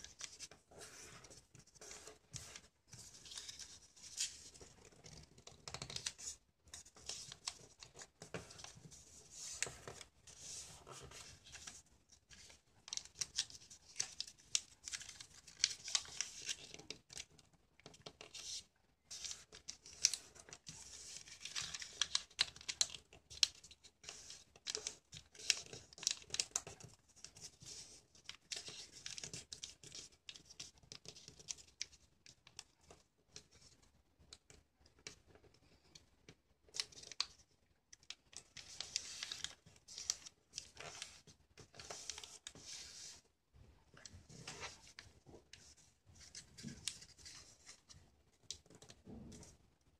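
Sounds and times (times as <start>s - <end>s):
paper folding and crinkling: 0.0s - 33.8s, 36.7s - 49.6s.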